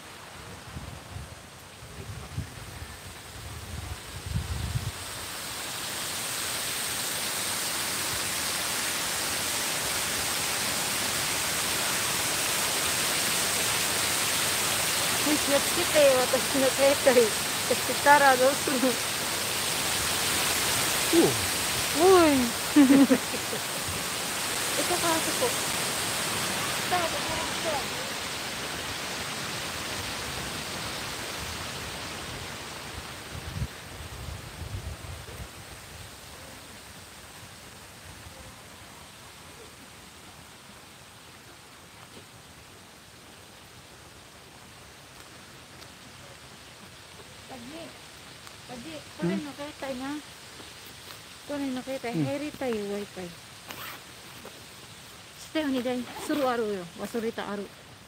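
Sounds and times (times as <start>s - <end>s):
water splashing down cascade: 4.8s - 58.0s.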